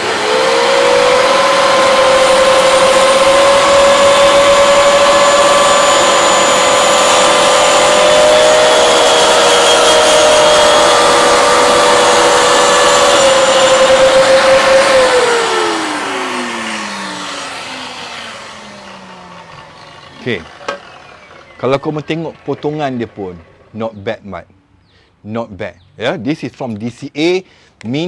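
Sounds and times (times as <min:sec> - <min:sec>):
saw blade cutting wood: 0:00.0 - 0:24.0
table saw whine: 0:00.0 - 0:24.2.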